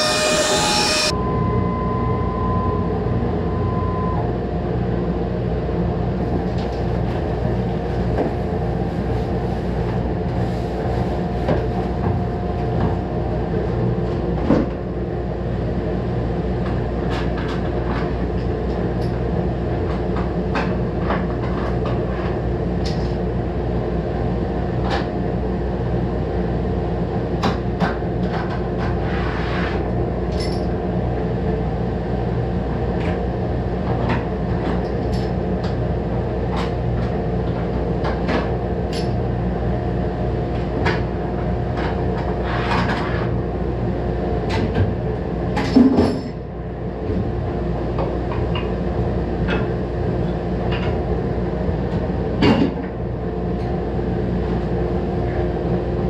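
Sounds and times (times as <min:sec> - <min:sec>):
workshop machinery drone: 0:00.0 - 0:56.0.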